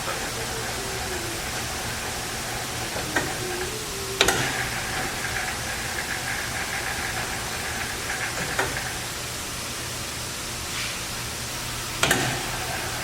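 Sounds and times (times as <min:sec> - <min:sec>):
lathe whirring: 0:00.0 - 0:13.0.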